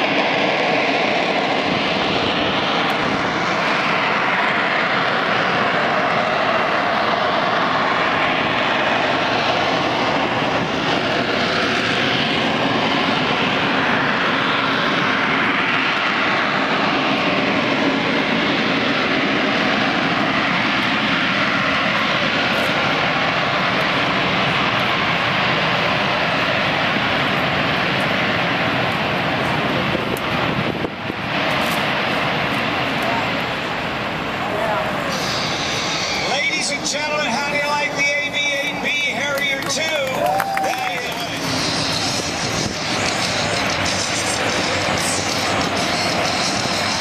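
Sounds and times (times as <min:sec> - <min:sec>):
jet engine roar: 0:00.0 - 0:47.0.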